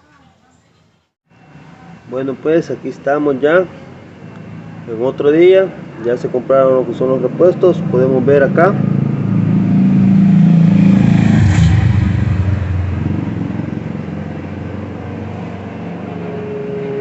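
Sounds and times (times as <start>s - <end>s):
motor vehicle engine passing by: 1.3s - 17.0s.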